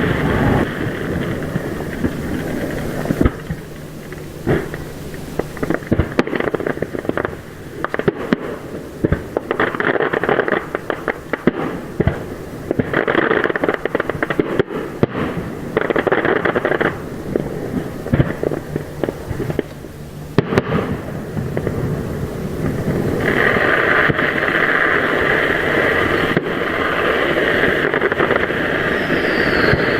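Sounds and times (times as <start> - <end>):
fireworks bangs: 0.0 - 29.9
fireworks crackling: 0.0 - 29.9.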